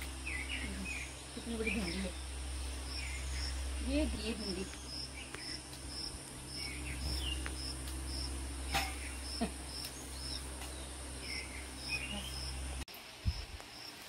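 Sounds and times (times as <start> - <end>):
cricket chirping: 0.0 - 13.9.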